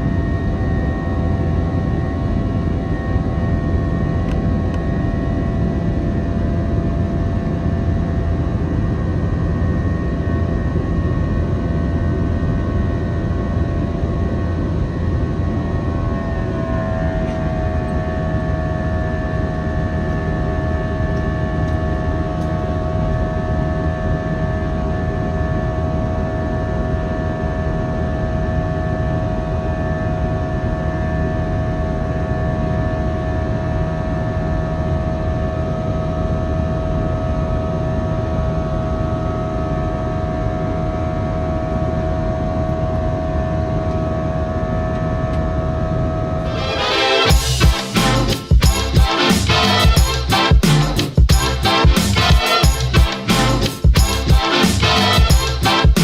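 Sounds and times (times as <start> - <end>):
airliner cabin engine rush: 0.0 - 49.4.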